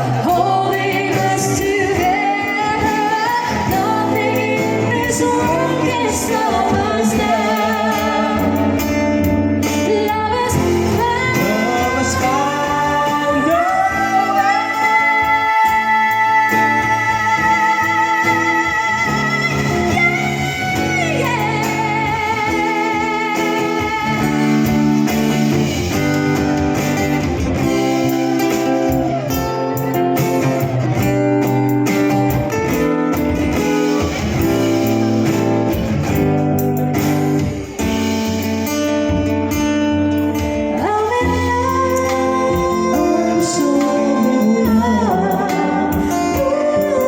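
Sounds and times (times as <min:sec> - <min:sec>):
band backing chords: 0:00.0 - 0:47.0
guitar melody: 0:00.0 - 0:47.0.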